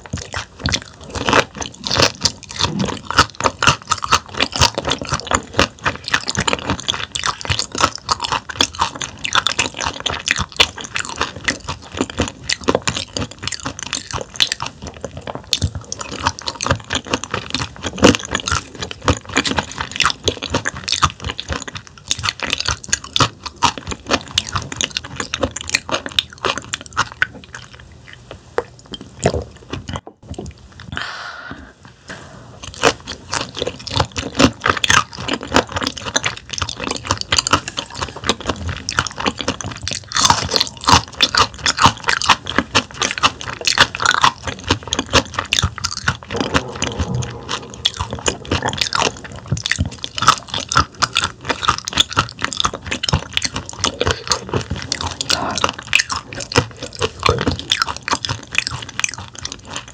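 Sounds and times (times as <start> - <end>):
wet chewing and crunching: 0.0 - 30.9, 32.1 - 59.9.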